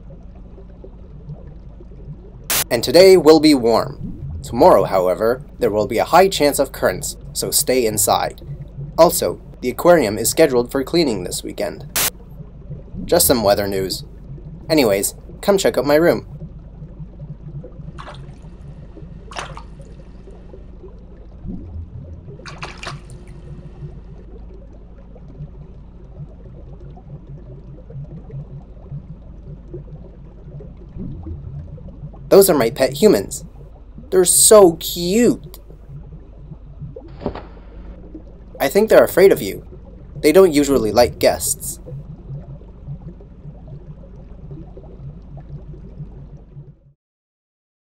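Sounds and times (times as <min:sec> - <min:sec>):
short bright water sounds: 0:00.0 - 0:46.8
low steady hum: 0:00.0 - 0:46.9
underwater bubbling: 0:00.0 - 0:46.9.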